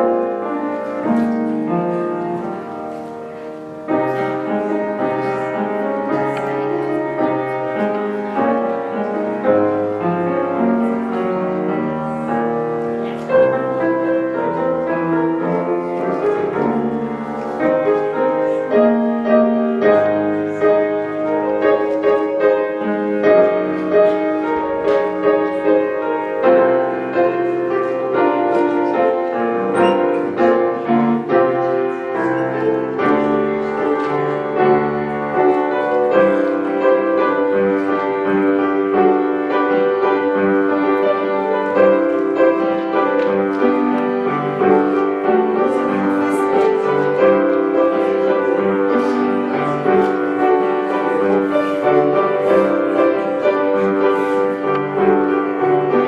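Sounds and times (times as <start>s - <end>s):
solo piano hymn: 0.0s - 56.0s.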